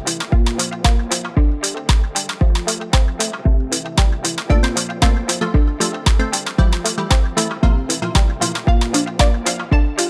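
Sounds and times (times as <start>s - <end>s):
booming kick drum: 0.0s - 10.0s
electronic dance beat: 0.0s - 10.0s.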